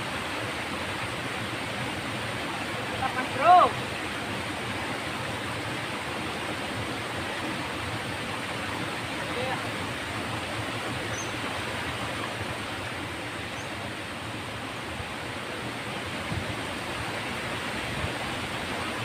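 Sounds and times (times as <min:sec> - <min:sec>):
water rushing over weir: 0:00.0 - 0:19.0.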